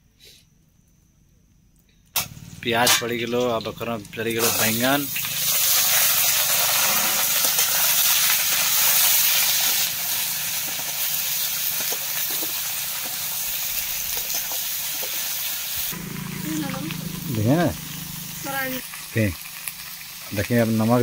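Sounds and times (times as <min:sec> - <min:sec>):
vegetables sizzling in hot oil: 0:03.6 - 0:21.0.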